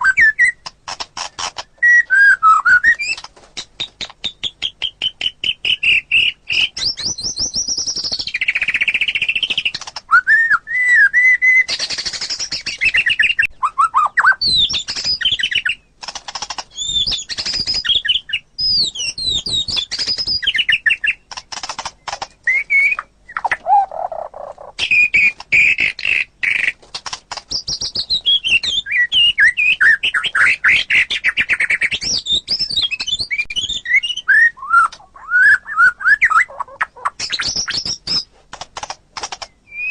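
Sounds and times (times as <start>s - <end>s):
songbird singing whistled phrases: 0.0s - 0.7s, 1.7s - 15.9s, 16.7s - 21.2s, 22.0s - 26.8s, 27.5s - 38.3s, 39.5s - 39.9s.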